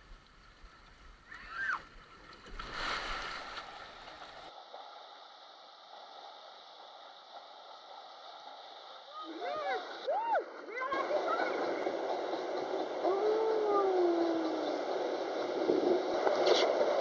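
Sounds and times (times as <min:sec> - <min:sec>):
water rushing along a tube slide: 0:01.2 - 0:17.0.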